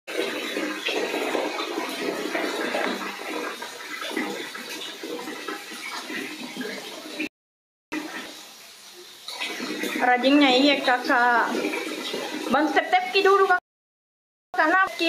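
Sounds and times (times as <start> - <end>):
water splashing into a basin: 0.1 - 7.3, 7.9 - 13.6.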